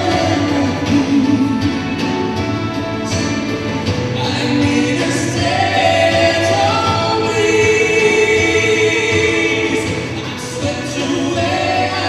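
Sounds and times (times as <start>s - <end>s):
instrumental backing: 0.0s - 12.0s
voices singing together: 0.0s - 12.0s.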